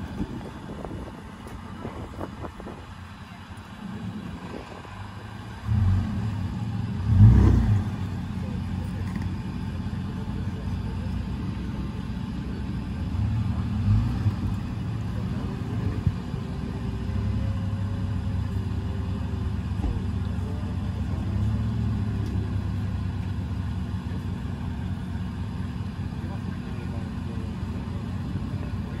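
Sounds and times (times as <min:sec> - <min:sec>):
engine rumbling and revving: 0:00.0 - 0:29.0.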